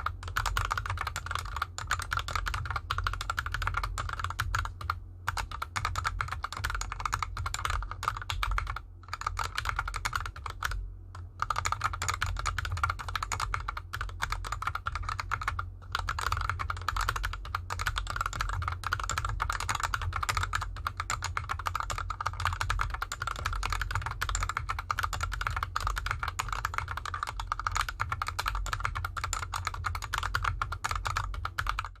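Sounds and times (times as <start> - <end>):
mechanical keyboard typing: 0.0 - 32.0.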